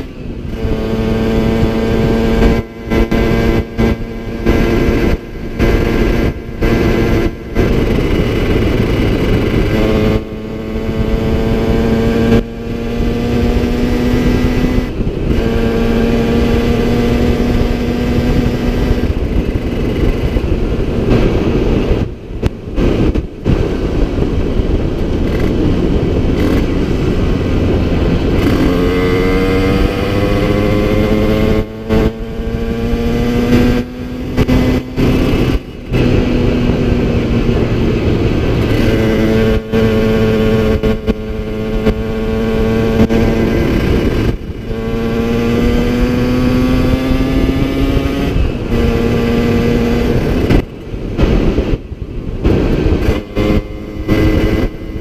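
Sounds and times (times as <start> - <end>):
two-stroke engine revving: 0.0 - 23.6, 24.6 - 55.0.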